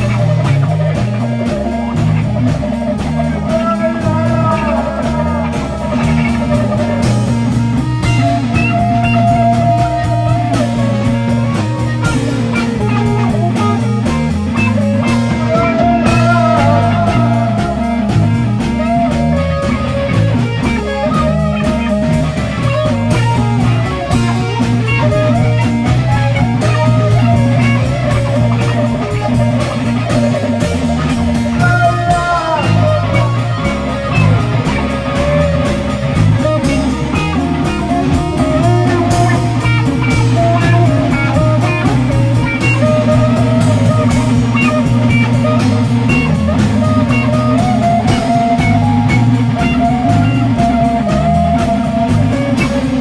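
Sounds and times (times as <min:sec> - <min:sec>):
rock music: 0:00.0 - 0:53.0.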